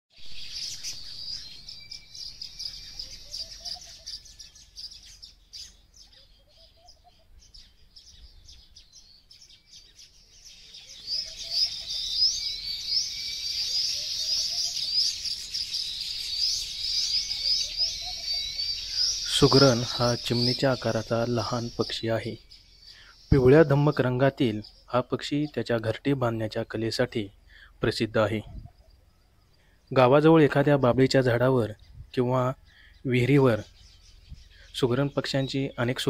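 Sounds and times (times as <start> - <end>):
birds chattering: 0.2 - 36.0.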